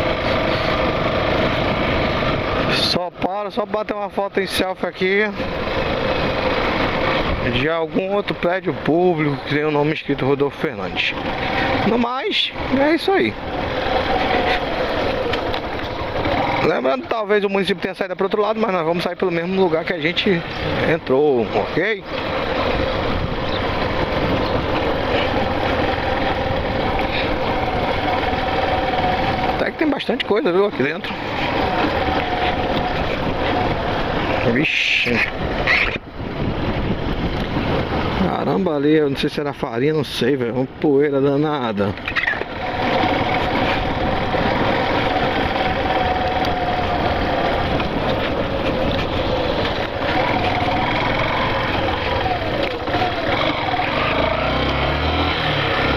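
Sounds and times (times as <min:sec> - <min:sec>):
motorcycle engine at low speed: 0:00.0 - 0:55.9
tyres rumbling on cobblestones: 0:00.0 - 0:55.9.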